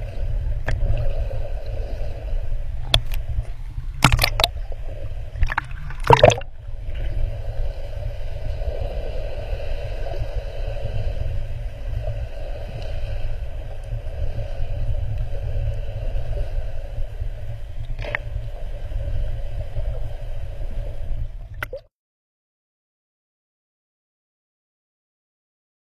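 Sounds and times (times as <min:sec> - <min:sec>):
deep underwater rumble: 0:00.0 - 0:21.9.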